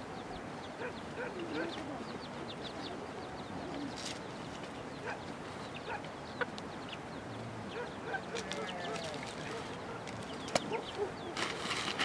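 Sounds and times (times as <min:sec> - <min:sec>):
small birds chirping: 0:00.0 - 0:11.8
steady background hiss: 0:00.0 - 0:12.0.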